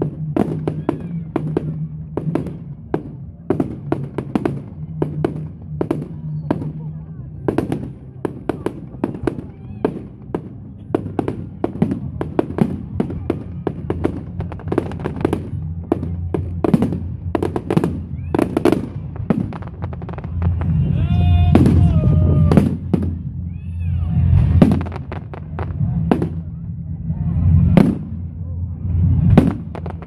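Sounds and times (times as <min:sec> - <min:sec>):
firework cracks and bangs: 0:00.0 - 0:23.4, 0:24.2 - 0:26.6, 0:27.5 - 0:30.0
firework whistling: 0:00.0 - 0:26.6, 0:27.4 - 0:30.0
low rumble: 0:00.0 - 0:30.0.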